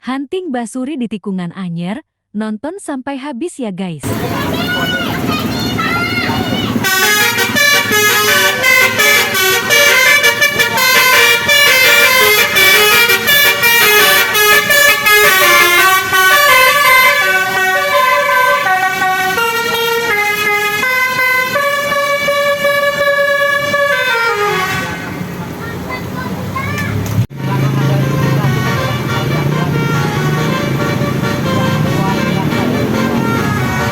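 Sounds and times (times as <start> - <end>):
multi-note bus horn tune: 4.0 - 25.4, 27.3 - 33.9.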